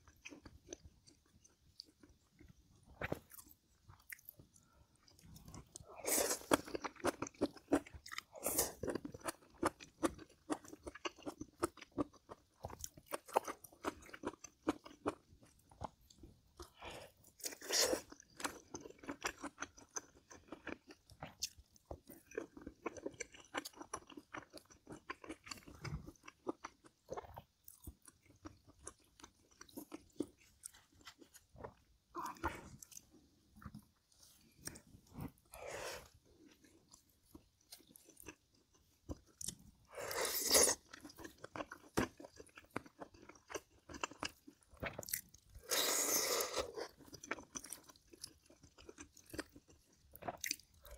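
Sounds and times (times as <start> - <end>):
person chewing and crunching food: 0.0 - 50.9.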